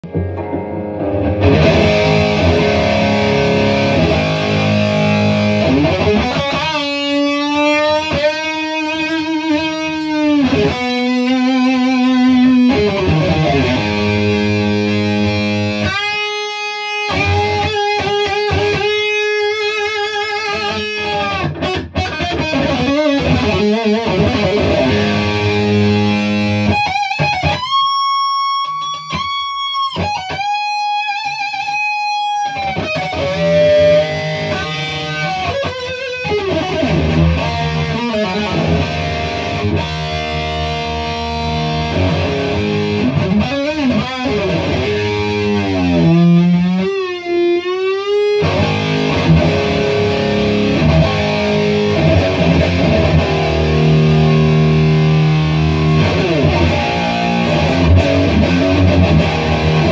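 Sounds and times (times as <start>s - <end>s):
distorted electric guitar: 0.0s - 59.9s.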